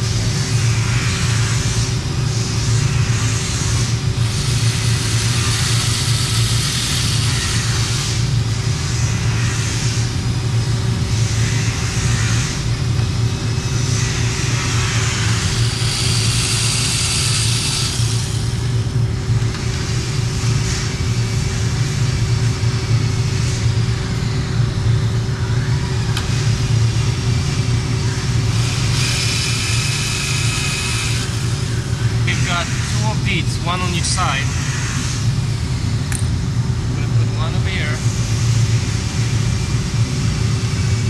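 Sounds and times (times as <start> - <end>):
high-pitched whirring: 0.0 - 36.3
low mechanical hum: 0.0 - 41.0.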